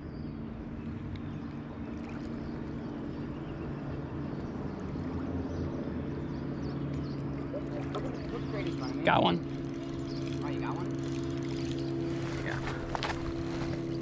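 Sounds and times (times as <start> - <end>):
motorboat engine drone: 0.0 - 14.0.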